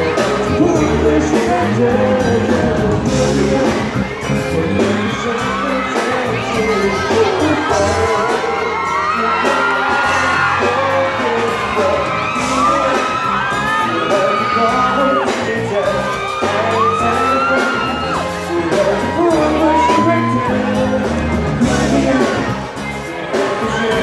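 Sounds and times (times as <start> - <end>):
fans whooping and screaming: 0.0 - 24.0
live pop band playing: 0.0 - 24.0
man singing long notes: 0.0 - 24.0.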